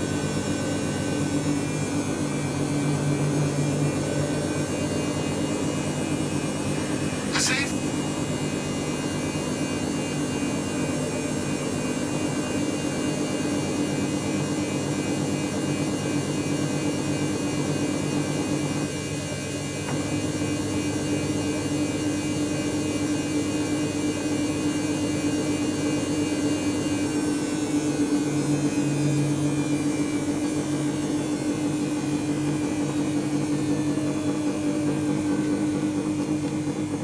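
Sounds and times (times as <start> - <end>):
washing machine motor hum: 0.0 - 37.0.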